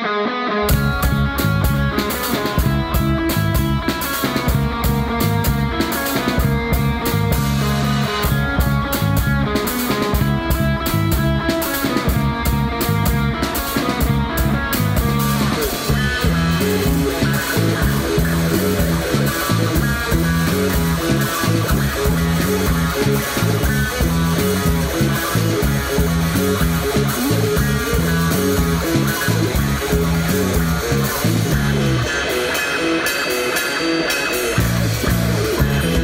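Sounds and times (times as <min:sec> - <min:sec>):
rock band playing: 0:00.0 - 0:36.0.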